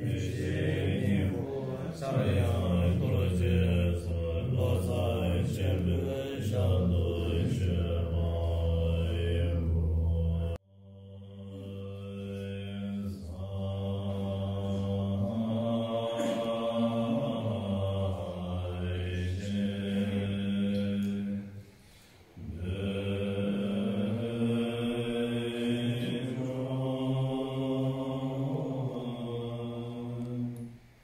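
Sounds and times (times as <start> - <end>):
monks chanting in unison: 0.0 - 31.0.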